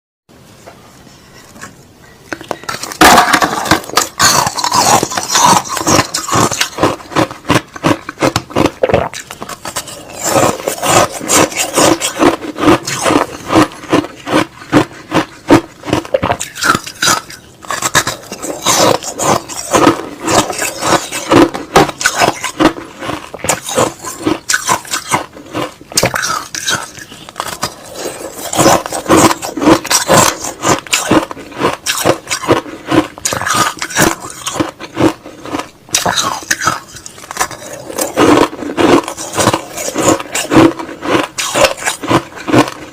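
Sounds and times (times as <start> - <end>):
chewing crushed ice: 2.4 - 42.9.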